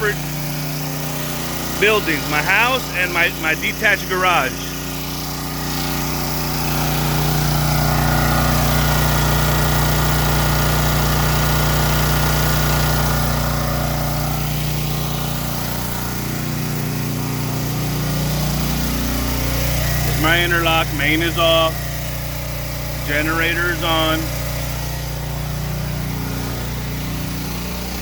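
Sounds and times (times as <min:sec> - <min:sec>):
air conditioner running: 0:00.0 - 0:28.0
generator engine running: 0:00.0 - 0:28.0.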